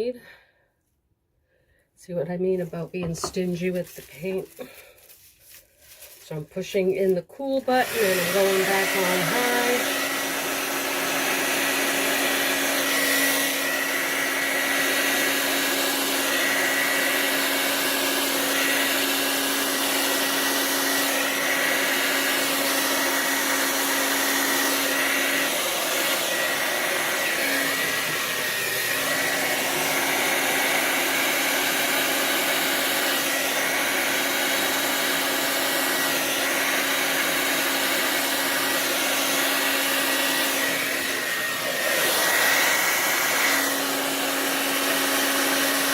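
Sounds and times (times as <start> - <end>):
hair dryer running: 2.4 - 5.2, 5.9 - 45.9.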